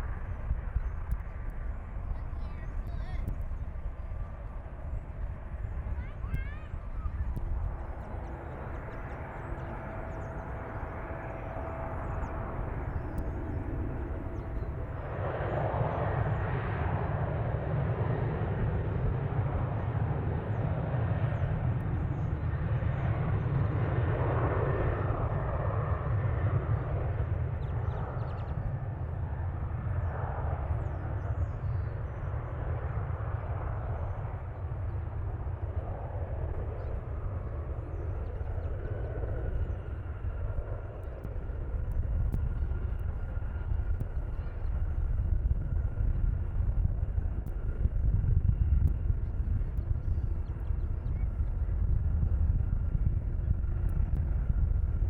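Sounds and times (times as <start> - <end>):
jet airliner engines rumbling: 0.0 - 55.0.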